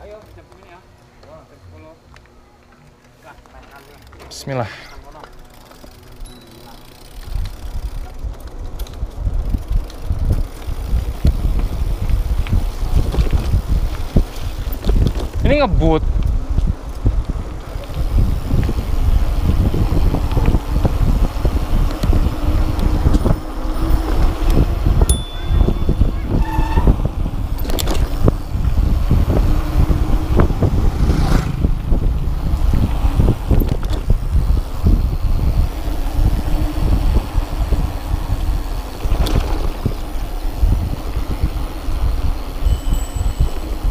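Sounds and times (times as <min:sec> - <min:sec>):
mountain bike rattling over trail: 0:03.2 - 0:43.9
wind buffeting microphone: 0:07.2 - 0:43.9.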